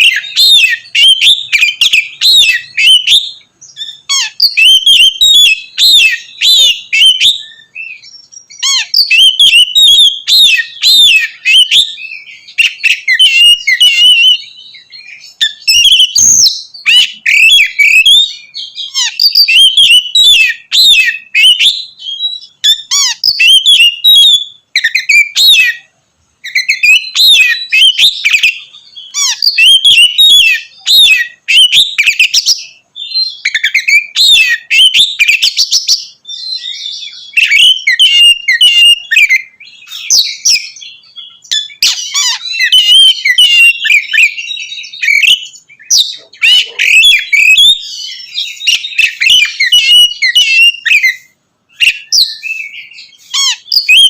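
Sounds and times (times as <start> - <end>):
bird singing whistles and chatter: 0.0 - 54.0.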